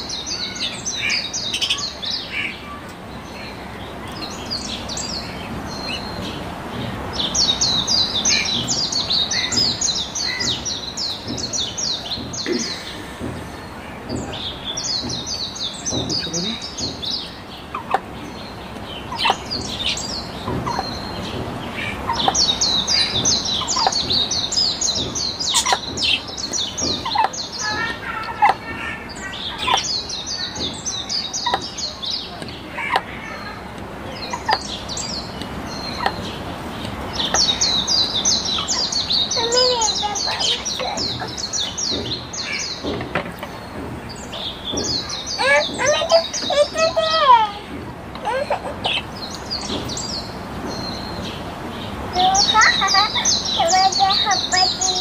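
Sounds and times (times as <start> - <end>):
budgerigars chirping and warbling: 0.0 - 47.6, 48.3 - 55.0.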